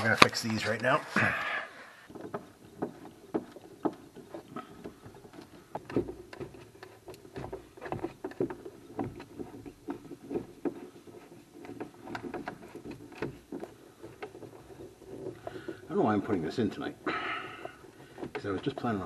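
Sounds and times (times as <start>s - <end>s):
plastic track rattling: 2.1s - 19.0s.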